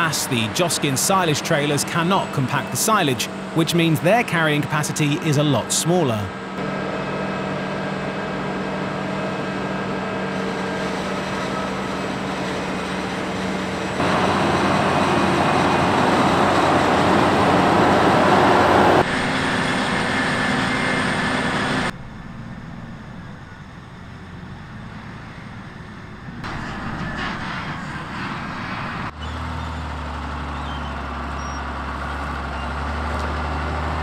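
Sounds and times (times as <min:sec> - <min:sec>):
farm machinery engines: 0:00.0 - 0:34.0.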